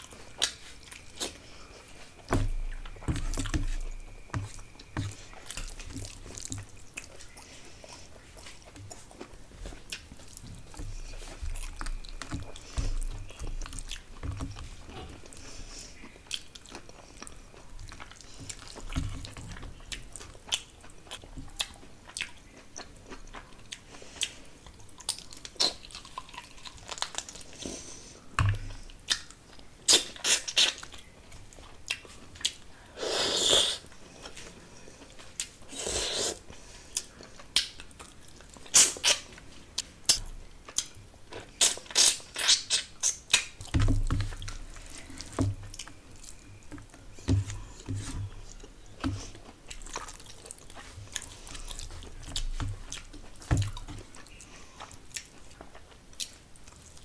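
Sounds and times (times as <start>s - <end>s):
chewing and biting food: 0.0s - 27.7s, 36.4s - 57.0s.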